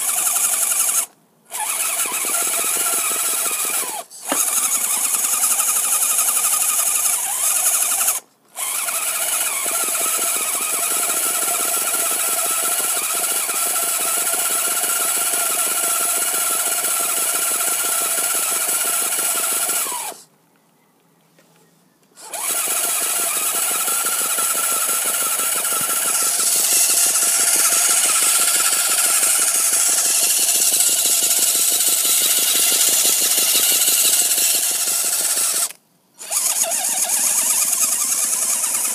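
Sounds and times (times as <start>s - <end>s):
electric motor and gearbox whining: 0.0s - 20.2s, 22.2s - 38.9s.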